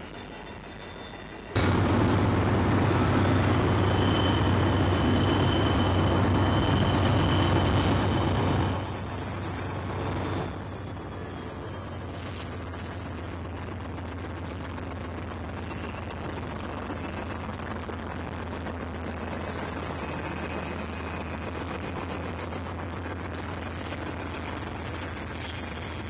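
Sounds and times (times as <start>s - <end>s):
diesel locomotive engines droning: 0.0s - 26.0s
moving train rumble: 0.0s - 26.0s.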